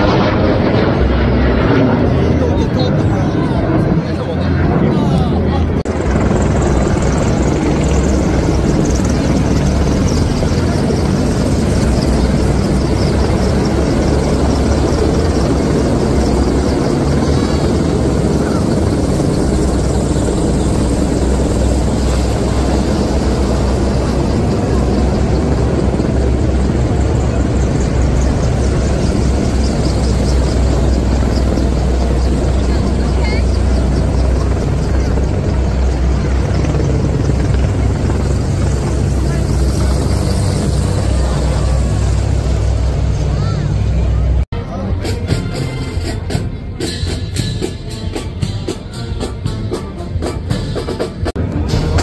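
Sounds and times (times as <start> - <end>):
helicopter rotor beat: 0.0 - 52.0.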